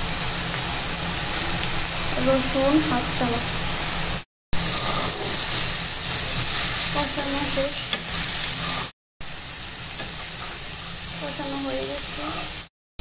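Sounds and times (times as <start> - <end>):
paste sizzling in hot oil: 0.0 - 12.7.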